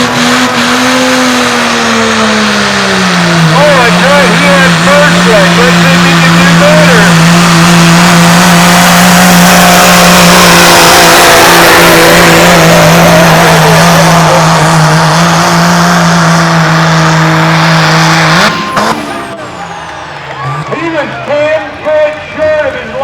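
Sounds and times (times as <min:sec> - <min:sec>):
truck engine at high revs: 0:00.0 - 0:23.0.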